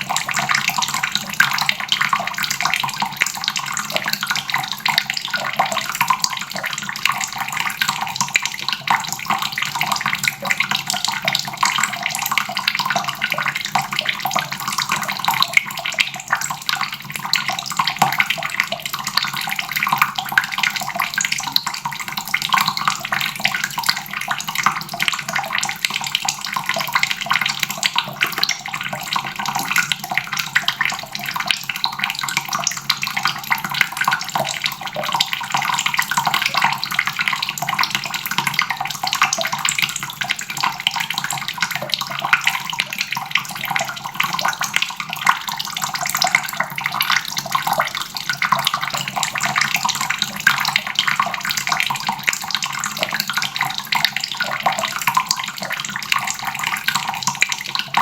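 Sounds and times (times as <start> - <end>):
faucet running into basin: 0.0 - 58.0.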